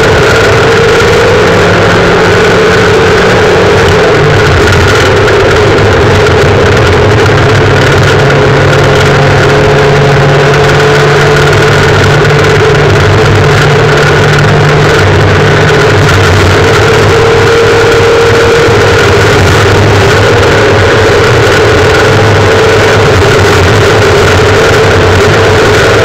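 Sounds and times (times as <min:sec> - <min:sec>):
rally car engine running hard: 0:00.0 - 0:26.0.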